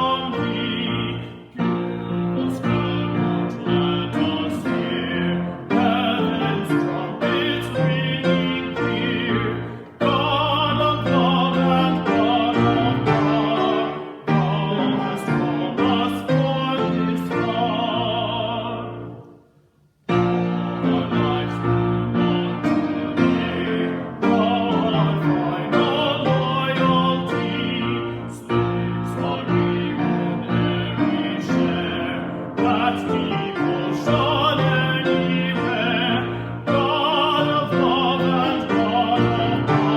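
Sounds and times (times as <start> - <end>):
piano accompaniment: 0.0 - 19.4, 20.1 - 39.9
person singing with vibrato: 0.0 - 19.5, 20.1 - 39.9.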